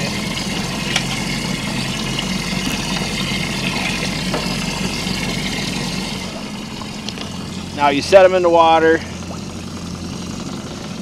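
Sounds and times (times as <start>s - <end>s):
low mechanical hum of machinery: 0.0s - 11.0s
running water rushing: 0.0s - 11.0s.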